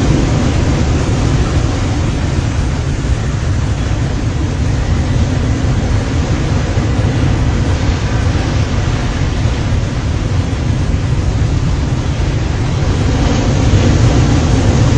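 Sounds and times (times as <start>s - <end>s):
ocean surf breaking: 0.0s - 14.9s
wind rumbling on microphone: 0.0s - 14.9s.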